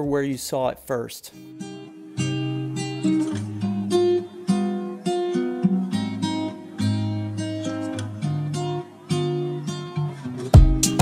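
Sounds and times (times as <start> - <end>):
strummed acoustic guitar: 1.4 - 11.0.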